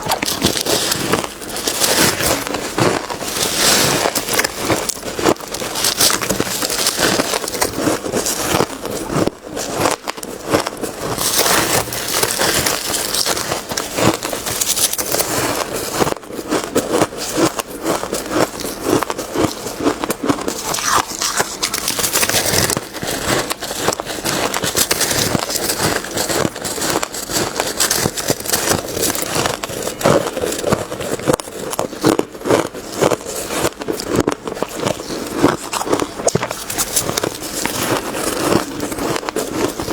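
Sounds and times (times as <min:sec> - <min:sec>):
chewing ice crunching: 0:00.0 - 0:39.9.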